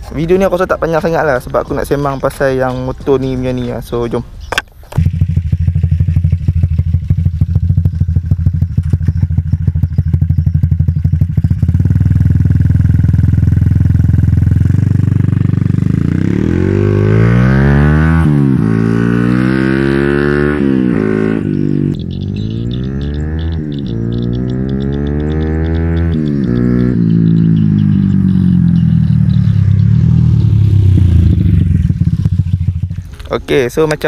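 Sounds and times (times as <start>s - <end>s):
motorcycle engine revving: 4.9s - 33.3s.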